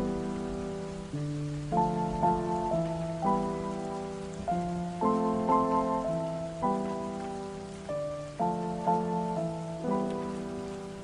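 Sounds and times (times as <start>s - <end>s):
soft instrumental music chords: 0.0s - 11.0s
steady rain falling: 0.0s - 11.0s.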